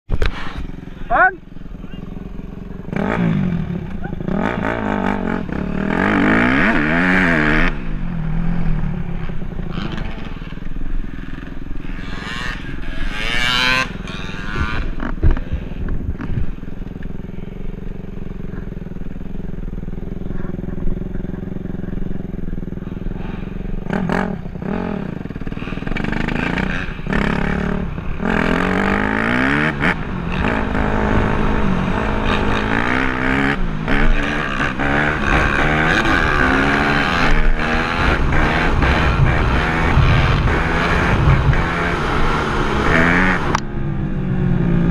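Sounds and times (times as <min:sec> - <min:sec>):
dirt bike engine revving: 0:00.2 - 0:44.9.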